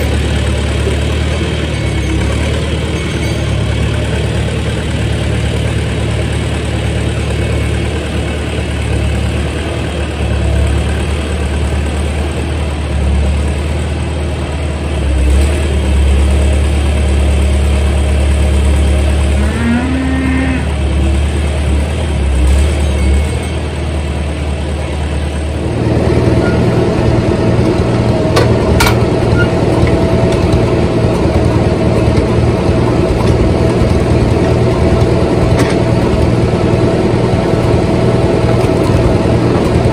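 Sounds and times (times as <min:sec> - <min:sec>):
tractor engines idling: 0:00.0 - 0:39.9.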